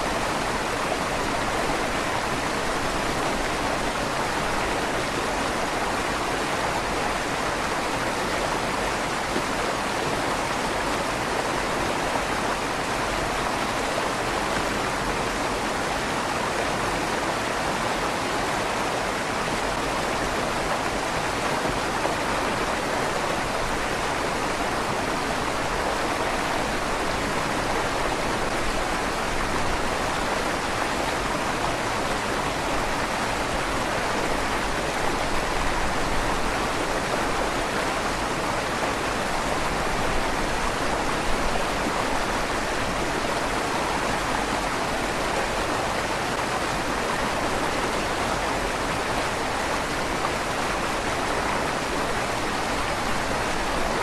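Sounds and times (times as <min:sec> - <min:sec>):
river water rushing in stone tunnel: 0:00.0 - 0:54.0.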